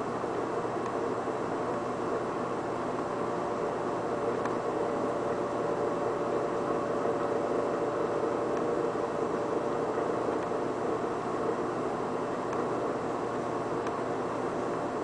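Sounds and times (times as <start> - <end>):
air conditioner and fan noise: 0.0 - 15.0
faint steady hum: 0.0 - 15.0.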